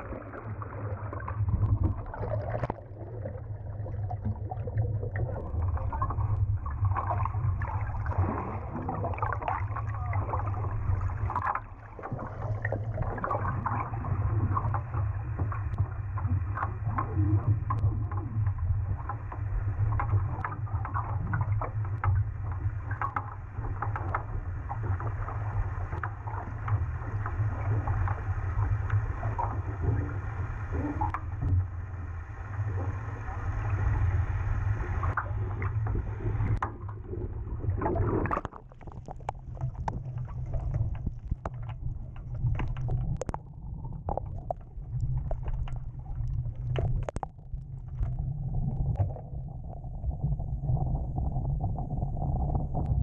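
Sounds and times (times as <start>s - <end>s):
underwater low rumble: 0.0s - 53.0s
water clicks and crackles: 0.0s - 53.0s.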